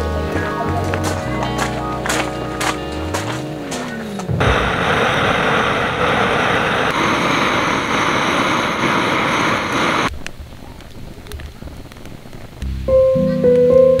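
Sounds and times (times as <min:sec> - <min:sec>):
loud steady noise: 0:00.0 - 0:12.9.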